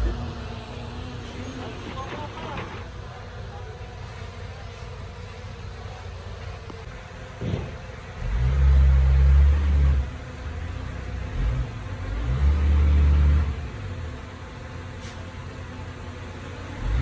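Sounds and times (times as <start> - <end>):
heavy diesel engine revving: 0.0 - 5.6, 6.9 - 17.0.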